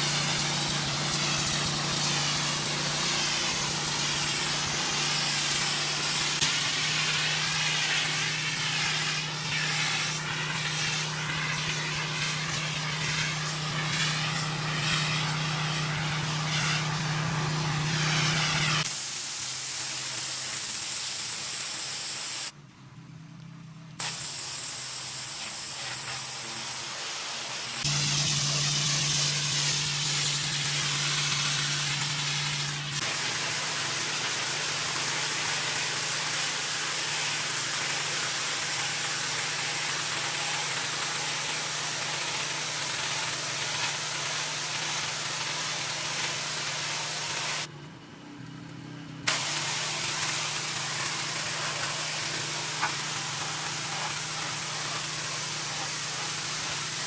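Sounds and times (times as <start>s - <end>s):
pressure washer spraying concrete: 0.0s - 22.6s, 24.0s - 47.7s, 49.2s - 57.0s.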